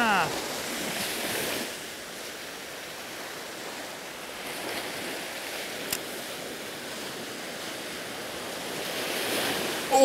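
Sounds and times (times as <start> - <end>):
ocean surf washing on beach: 0.0 - 10.0.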